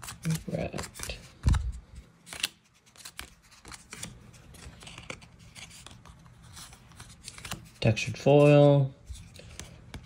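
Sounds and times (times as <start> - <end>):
cards rubbing papery: 0.0 - 10.0.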